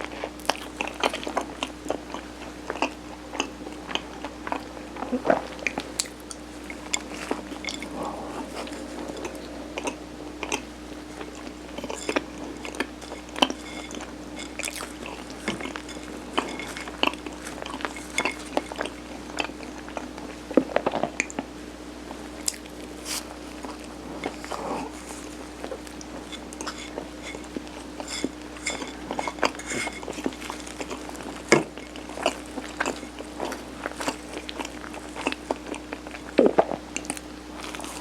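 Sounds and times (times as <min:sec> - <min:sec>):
chewing and biting: 0:00.0 - 0:21.5, 0:22.4 - 0:38.0.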